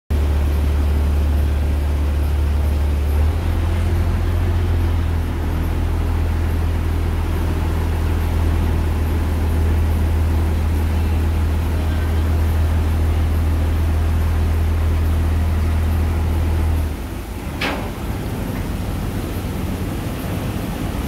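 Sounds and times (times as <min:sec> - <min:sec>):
boat engine droning: 0:00.1 - 0:21.0.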